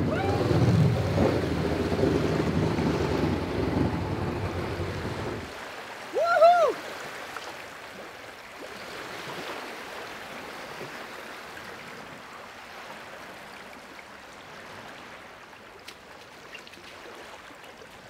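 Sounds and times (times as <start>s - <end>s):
lake water lapping: 0.0s - 18.0s.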